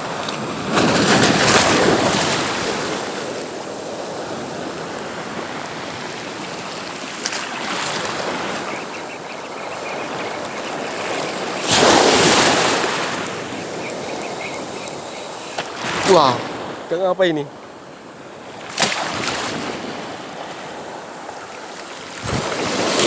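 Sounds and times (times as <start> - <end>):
sea waves washing on beach: 0.0 - 23.0
wave breaking: 0.6 - 16.9, 18.6 - 23.0.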